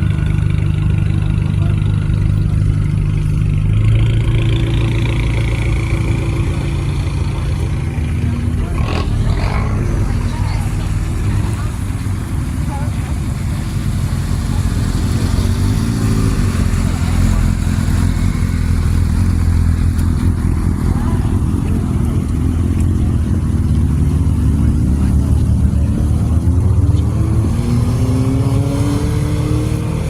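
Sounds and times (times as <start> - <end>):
car engine exhaust rumble: 0.0 - 30.0.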